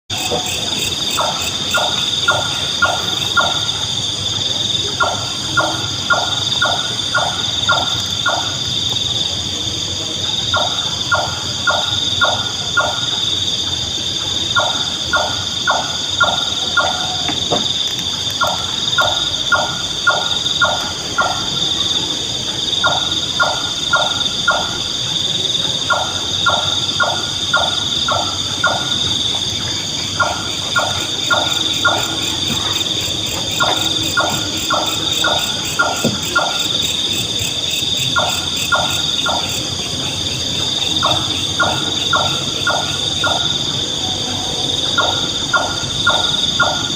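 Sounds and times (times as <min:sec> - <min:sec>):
nightjar calling: 0:00.1 - 0:09.2, 0:10.3 - 0:46.9
insect chorus: 0:00.1 - 0:46.9.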